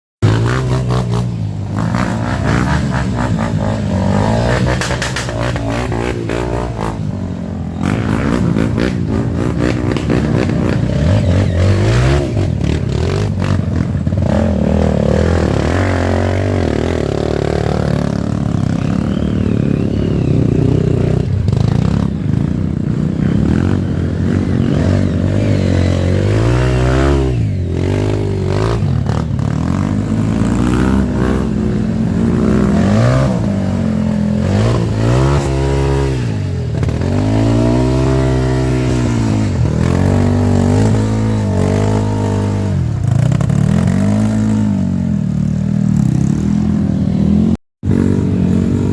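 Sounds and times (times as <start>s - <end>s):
motorcycle engines revving: 0.2s - 48.9s.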